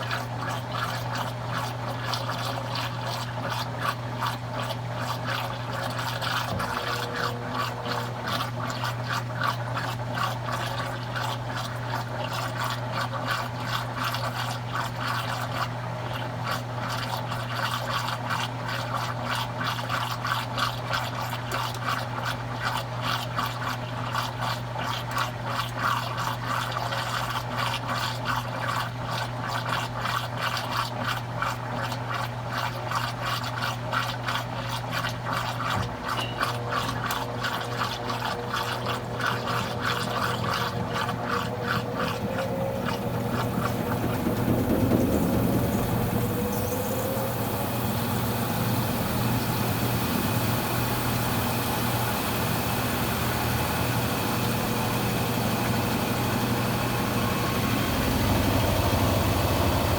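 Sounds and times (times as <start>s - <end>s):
washing machine humming: 0.0s - 59.9s
water rushing in tub: 0.0s - 59.9s.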